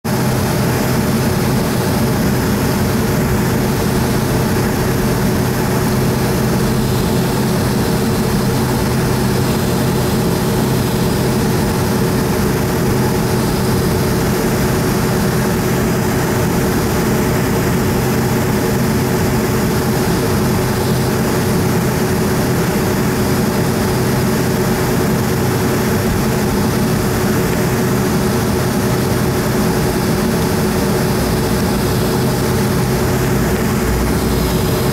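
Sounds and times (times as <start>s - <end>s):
jet engines idling: 0.1s - 34.9s.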